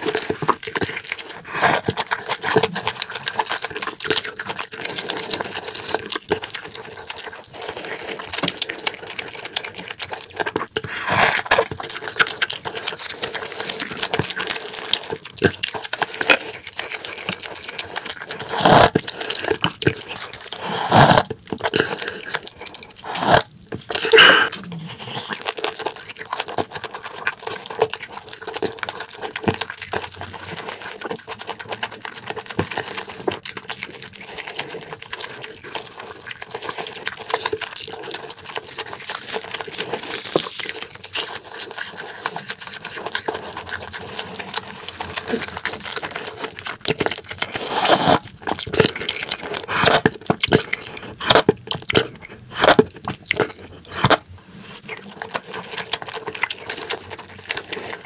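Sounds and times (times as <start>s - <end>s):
chewing with wet mouth sounds: 0.0s - 58.0s.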